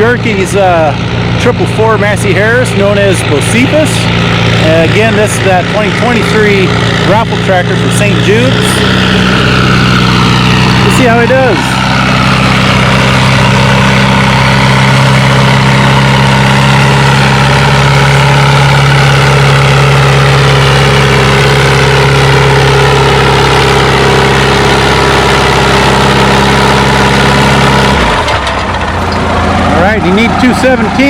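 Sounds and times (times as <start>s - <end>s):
tractor engine running under load: 0.0s - 31.0s.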